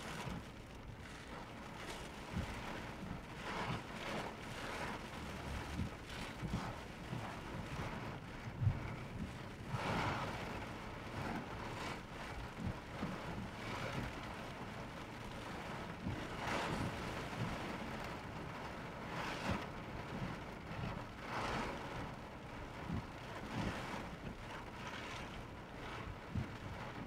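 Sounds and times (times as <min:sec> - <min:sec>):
heavy rain and wind on car: 0:00.0 - 0:27.0.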